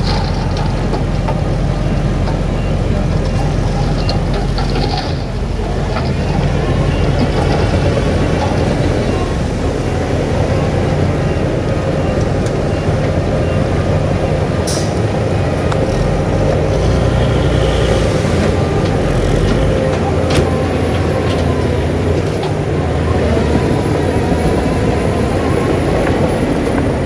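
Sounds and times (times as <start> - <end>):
diesel bulldozer engine running: 0.0 - 27.0.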